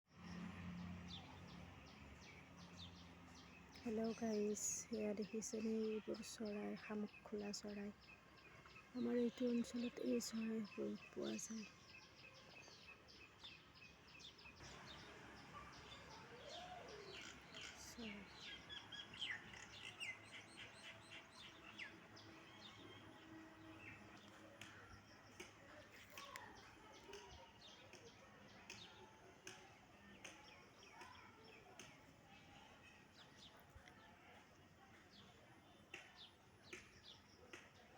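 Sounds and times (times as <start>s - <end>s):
birds chirping: 0.2s - 37.9s.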